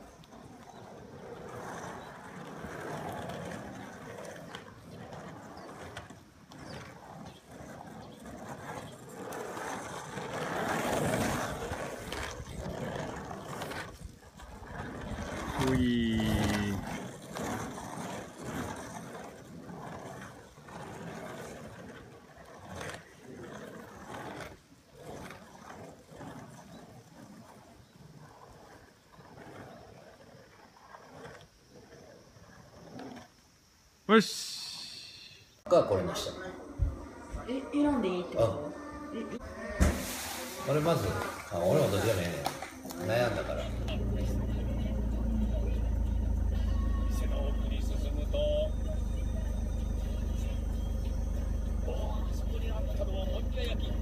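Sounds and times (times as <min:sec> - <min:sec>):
skateboard scrapes: 0:00.0 - 0:33.8, 0:34.6 - 0:54.0
skateboard wheels rolling on asphalt: 0:00.0 - 0:54.0.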